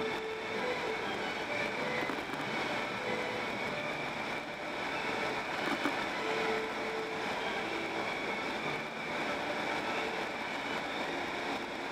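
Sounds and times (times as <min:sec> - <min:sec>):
car road and wind noise: 0:00.0 - 0:11.9.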